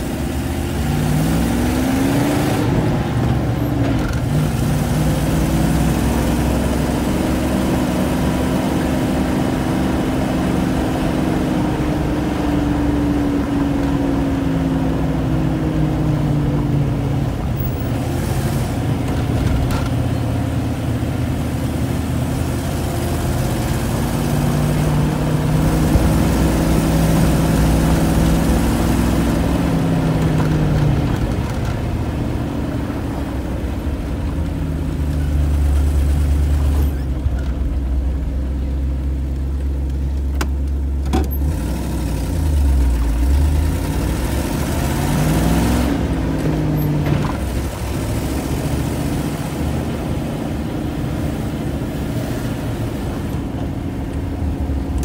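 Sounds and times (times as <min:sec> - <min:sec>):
car engine while driving: 0:00.0 - 0:55.0.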